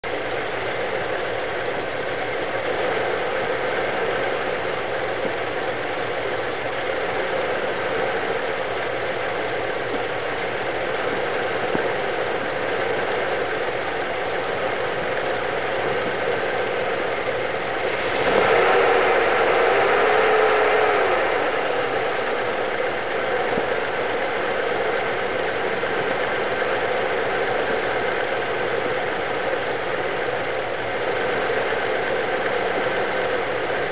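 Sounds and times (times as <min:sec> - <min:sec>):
engine idling erratically: 0:00.0 - 0:33.9
wavering engine whine: 0:00.0 - 0:33.9.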